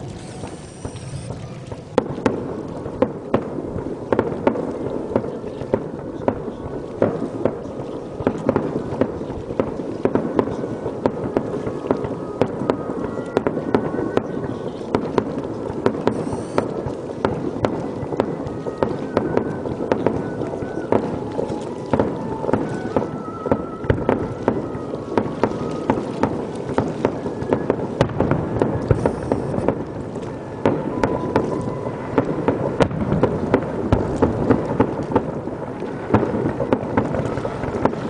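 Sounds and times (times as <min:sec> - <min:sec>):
fireworks bangs: 0:00.0 - 0:38.0
rumble of fireworks reports: 0:00.0 - 0:38.0.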